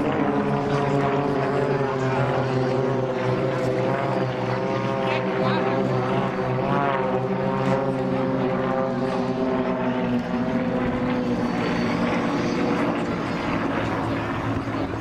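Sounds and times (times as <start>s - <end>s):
propeller planes flying past: 0.0s - 15.0s.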